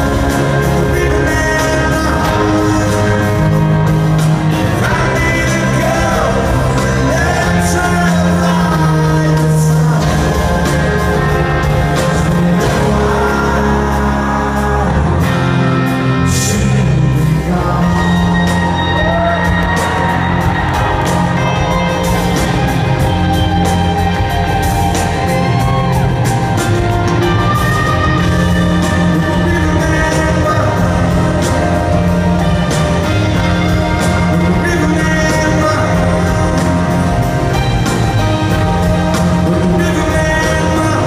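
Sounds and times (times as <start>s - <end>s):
live rock band playing: 0.0s - 41.0s
person singing: 0.0s - 41.0s.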